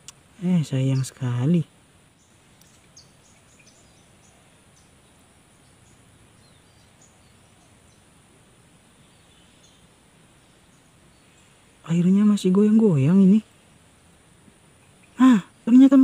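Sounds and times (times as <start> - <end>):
soft steady hiss: 0.0 - 16.0.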